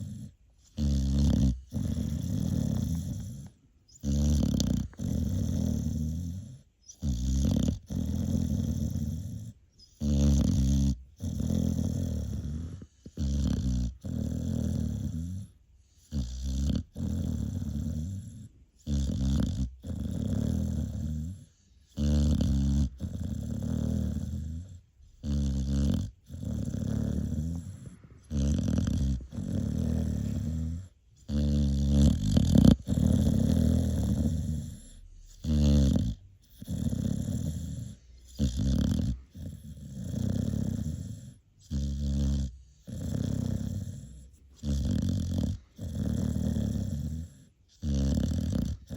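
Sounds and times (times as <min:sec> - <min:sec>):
puppy snoring loudly: 0:00.0 - 0:48.9.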